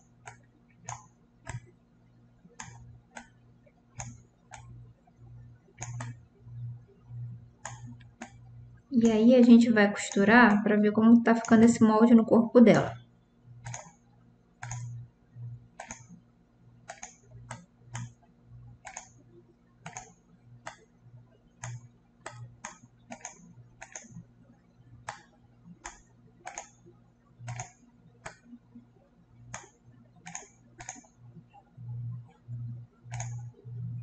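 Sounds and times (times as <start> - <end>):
computer mouse clicking: 0.0 - 1.8, 2.5 - 11.9, 13.6 - 34.0.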